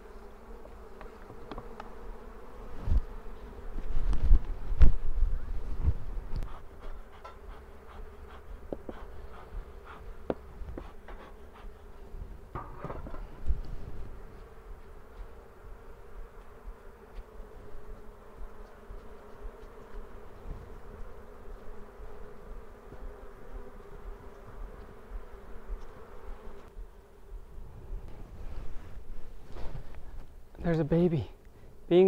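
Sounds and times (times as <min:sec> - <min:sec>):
bee brush tapping and scraping: 0:00.0 - 0:32.0
bees buzzing: 0:00.0 - 0:32.0.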